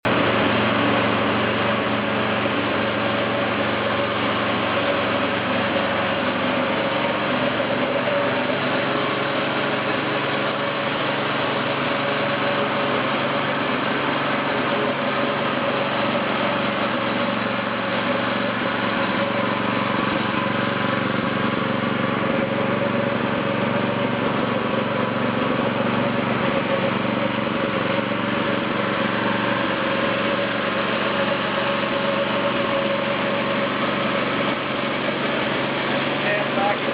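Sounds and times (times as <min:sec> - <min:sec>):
small engine running: 0:00.0 - 0:36.9.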